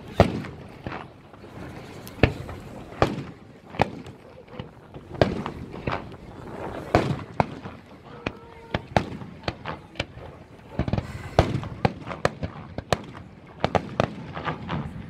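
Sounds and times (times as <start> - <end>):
firework shells bursting: 0.0 - 15.0
small firework pops: 2.0 - 15.0.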